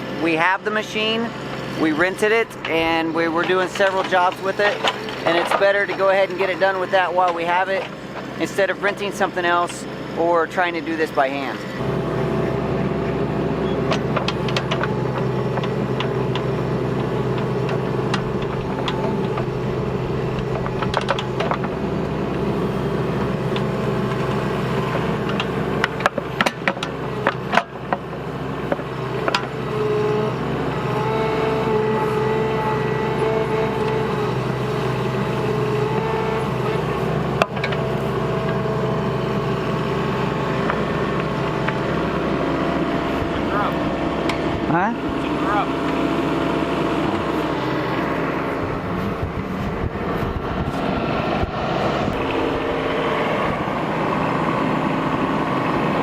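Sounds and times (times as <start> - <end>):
excavator diesel engine running: 0.0 - 56.0
hydraulic whine: 0.0 - 56.0.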